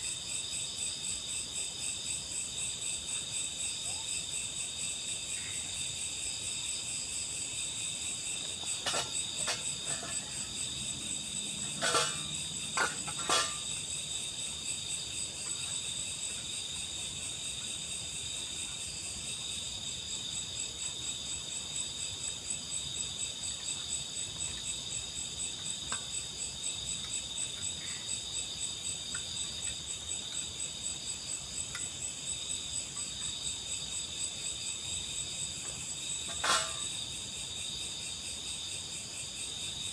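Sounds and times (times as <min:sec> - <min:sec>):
crickets and night insects trilling: 0:00.0 - 0:39.9.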